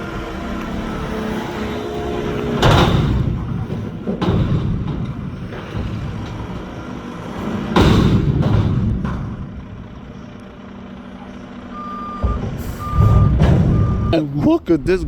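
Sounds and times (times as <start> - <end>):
loud metal bangs: 0.0 - 10.3, 12.2 - 15.0
garbage truck running: 0.0 - 15.0.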